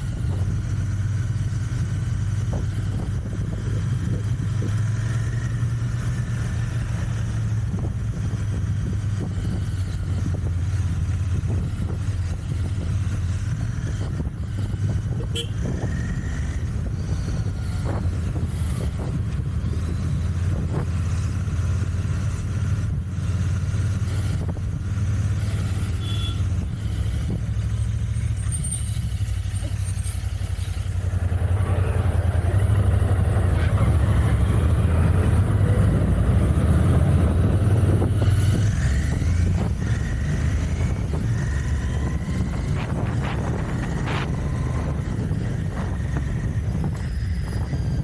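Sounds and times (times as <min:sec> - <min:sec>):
motorcycle engine droning: 0:00.0 - 0:48.0.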